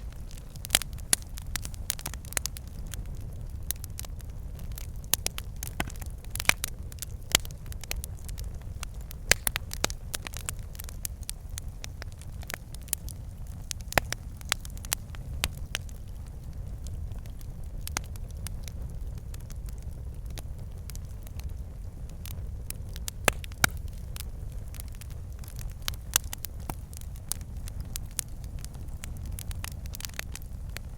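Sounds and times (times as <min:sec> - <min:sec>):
logs crackling and popping: 0:00.0 - 0:30.9
low rumble of flames: 0:00.0 - 0:30.9.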